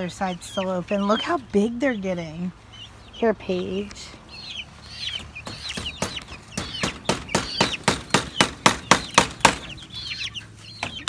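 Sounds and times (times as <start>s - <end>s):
chickens peeping and clucking: 0.0s - 11.0s.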